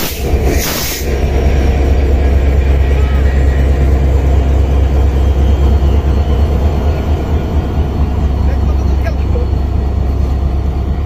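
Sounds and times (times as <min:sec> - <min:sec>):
locomotive engine deep rumble: 0:00.0 - 0:11.0.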